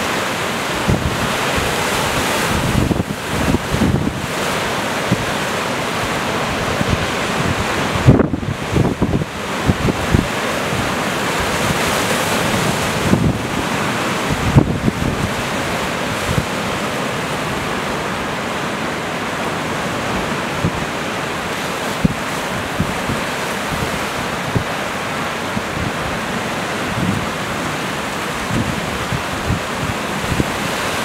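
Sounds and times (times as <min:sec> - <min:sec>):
sea surf breaking on rocks: 0:00.0 - 0:31.0
wind buffeting microphone: 0:00.7 - 0:16.8, 0:20.0 - 0:31.0.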